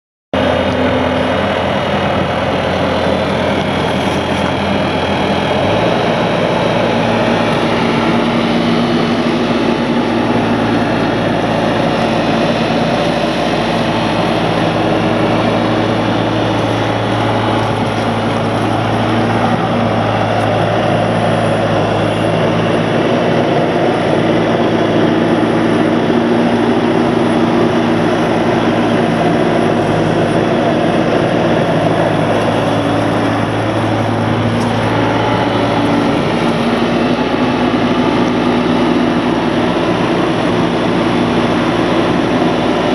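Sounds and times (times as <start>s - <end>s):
diesel engine running: 0.3s - 42.9s.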